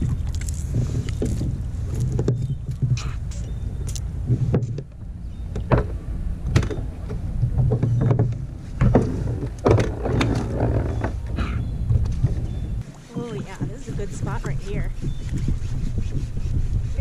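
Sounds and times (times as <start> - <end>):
water against kayak hull: 0.0 - 17.0
wind rumble on microphone: 0.0 - 17.0.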